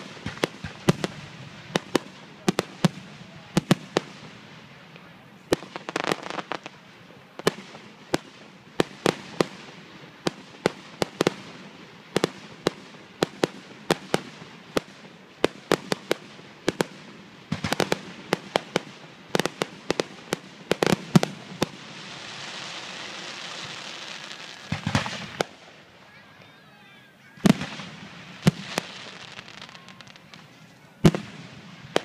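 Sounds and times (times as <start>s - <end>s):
firework bangs and pops: 0.0s - 25.9s, 27.4s - 32.0s
steady hiss: 0.0s - 32.0s.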